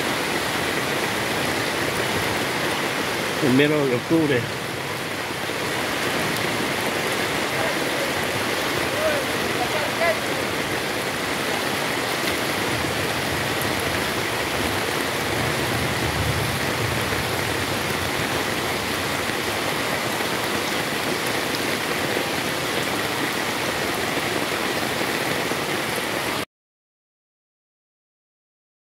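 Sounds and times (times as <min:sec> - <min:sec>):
heavy rain on a flooded street: 0:00.0 - 0:26.5.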